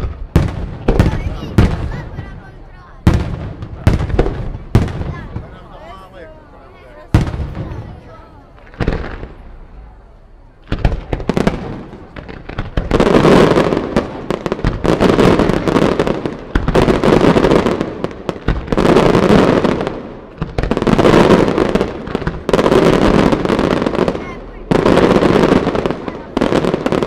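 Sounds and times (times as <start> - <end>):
fireworks explosions: 0.0 - 27.0.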